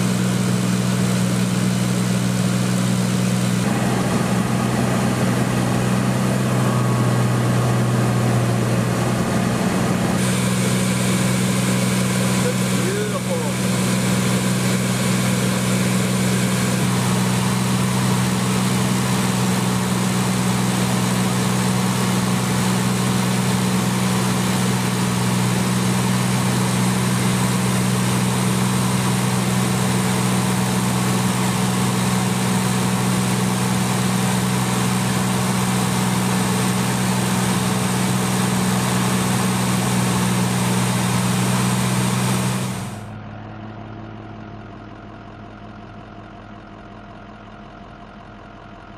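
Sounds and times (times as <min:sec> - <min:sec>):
aircraft engine drone: 0:00.0 - 0:43.1.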